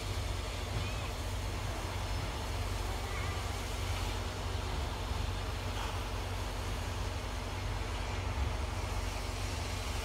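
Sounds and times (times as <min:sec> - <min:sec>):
train rumbling slowly: 0:00.0 - 0:10.0.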